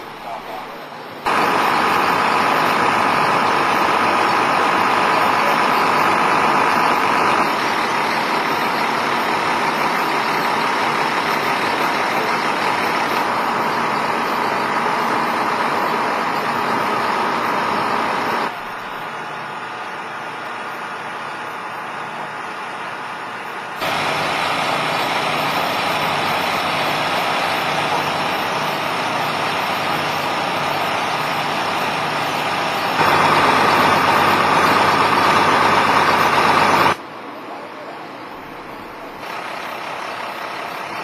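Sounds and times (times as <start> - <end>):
fire engine pump running: 0.0 - 41.0.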